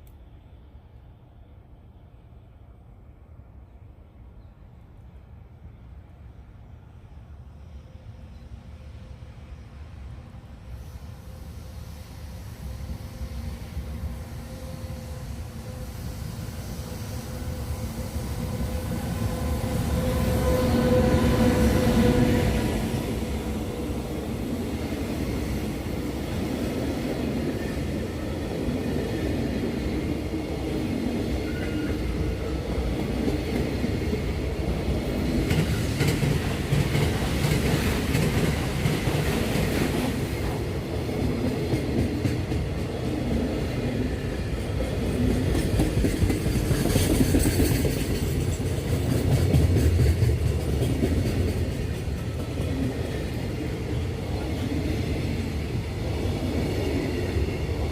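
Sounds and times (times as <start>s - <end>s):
freight train passing: 0.0s - 57.9s.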